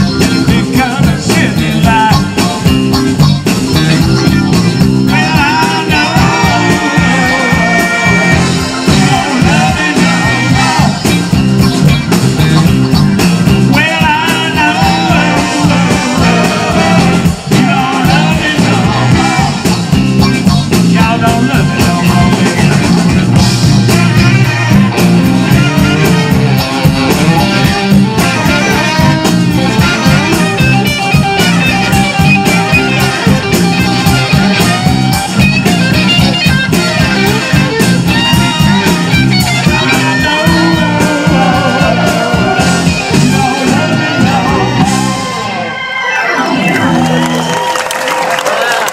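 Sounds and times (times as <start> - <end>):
person singing: 0.0 - 2.9, 3.9 - 11.9, 13.4 - 47.3
bass guitar: 0.0 - 48.9
drums: 0.0 - 48.9
electric guitar: 0.0 - 48.9
organ: 0.0 - 48.9.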